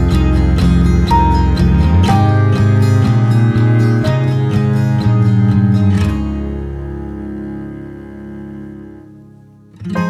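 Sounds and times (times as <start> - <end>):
acoustic guitar chord strummed: 0.0 - 10.0.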